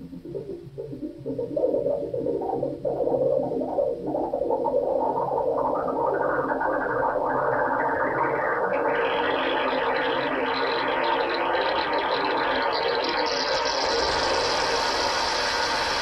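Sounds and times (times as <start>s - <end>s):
electronic bubbling water effect: 0.0s - 16.0s.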